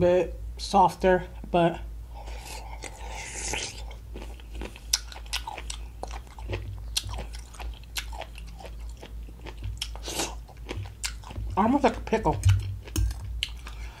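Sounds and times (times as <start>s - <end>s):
crunchy chewing of radish: 2.3s - 14.0s.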